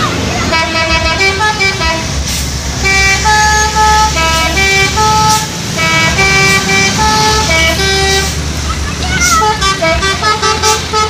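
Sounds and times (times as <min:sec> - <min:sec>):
bus engine rumble: 0:00.0 - 0:11.0
musical bus horn playing a tune: 0:00.4 - 0:08.5, 0:09.2 - 0:11.0.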